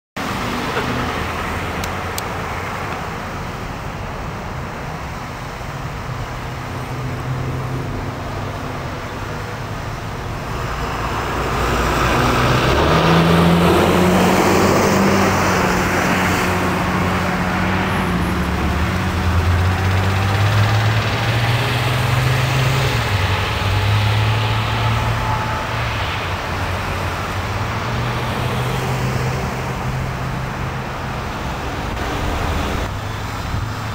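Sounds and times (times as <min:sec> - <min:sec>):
cars and trucks passing: 0:00.2 - 0:33.9.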